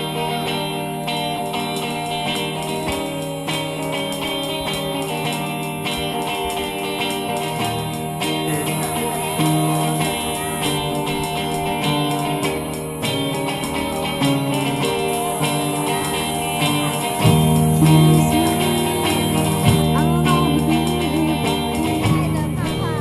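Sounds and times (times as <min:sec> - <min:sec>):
guitar-led band music: 0:00.0 - 0:23.0.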